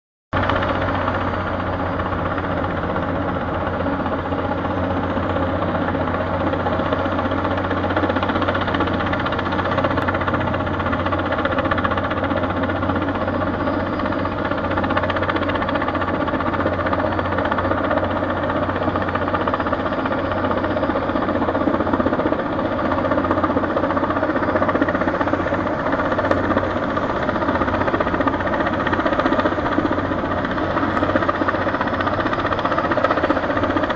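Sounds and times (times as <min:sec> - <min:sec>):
helicopter rotor and engine: 0:00.4 - 0:33.9.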